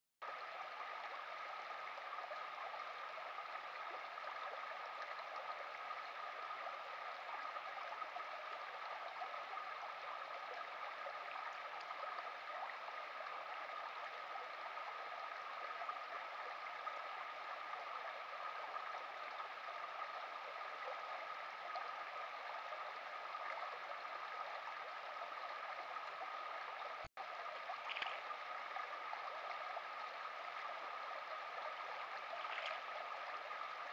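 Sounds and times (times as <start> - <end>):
stream gurgling over stones: 0.2 - 33.9.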